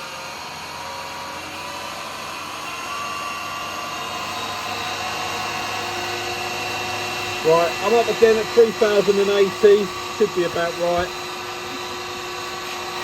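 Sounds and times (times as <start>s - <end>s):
wood lathe motor whirring: 0.0s - 13.0s.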